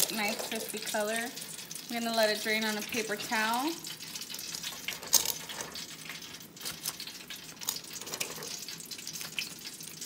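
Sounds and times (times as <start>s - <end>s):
hot oil sizzling: 0.0s - 10.0s
sharp oil crackles: 0.0s - 10.0s.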